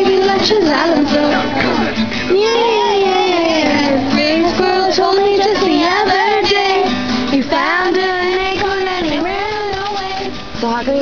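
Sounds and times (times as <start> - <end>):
acoustic guitar strumming: 0.0 - 11.0
woman singing: 0.0 - 11.0.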